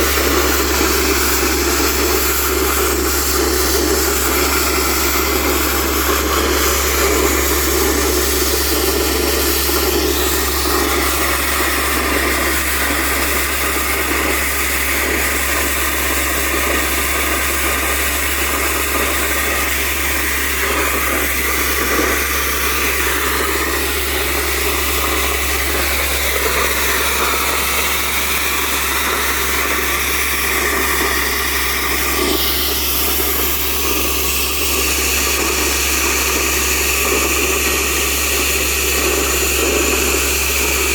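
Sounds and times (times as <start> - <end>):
compressor machine droning: 0.0 - 40.9.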